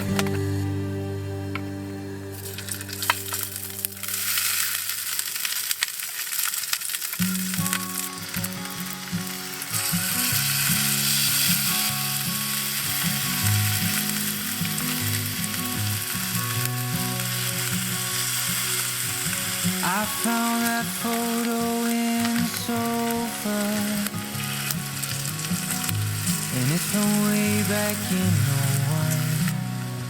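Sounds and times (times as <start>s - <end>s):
background music: 0.0s - 4.8s, 7.8s - 30.0s
food sizzling in a pan: 2.3s - 30.0s.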